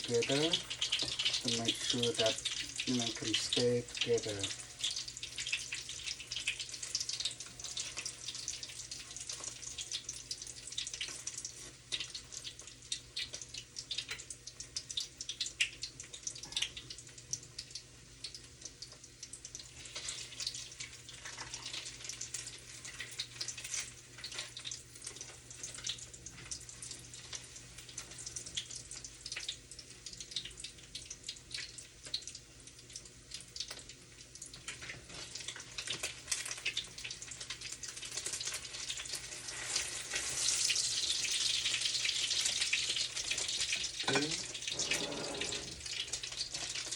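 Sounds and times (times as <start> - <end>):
food sizzling in a frying pan: 0.0 - 46.9.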